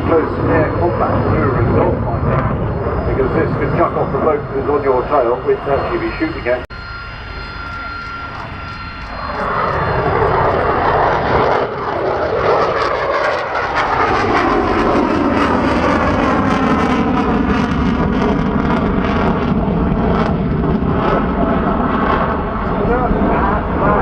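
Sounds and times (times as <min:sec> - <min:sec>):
jet engine whine: 0:00.0 - 0:24.0
jet engines roaring: 0:00.0 - 0:24.0.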